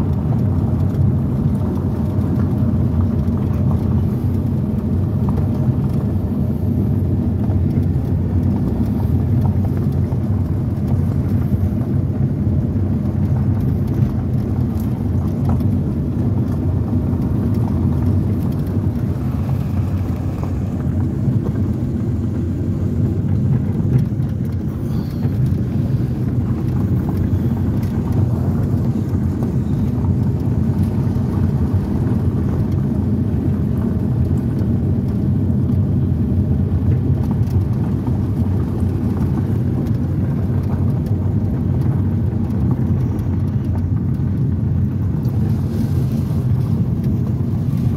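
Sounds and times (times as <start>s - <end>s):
car engine running: 0.0s - 47.9s
tyres on gravel road: 0.0s - 47.9s.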